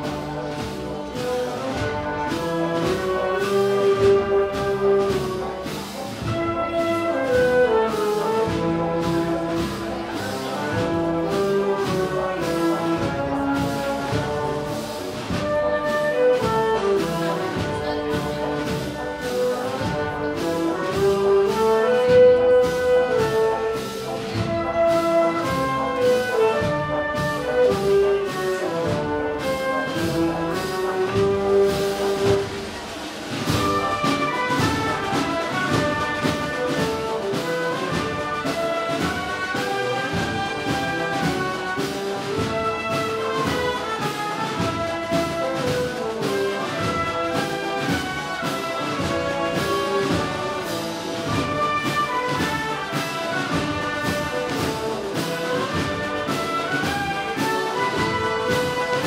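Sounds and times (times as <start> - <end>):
percussion steady beat: 0.0 - 59.0
wind band playing melody: 0.0 - 59.0.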